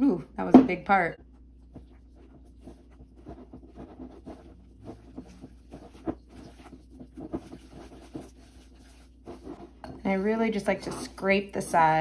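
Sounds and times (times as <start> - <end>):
whisk scraping batter in bowl: 1.3 - 12.0.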